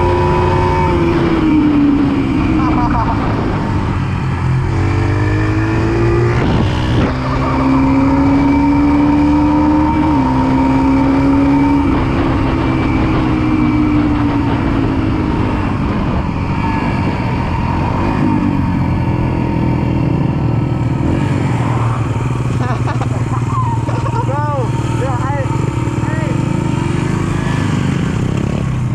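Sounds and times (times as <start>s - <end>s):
pit bike engine running: 0.0s - 28.9s
steady rushing noise: 0.0s - 28.9s.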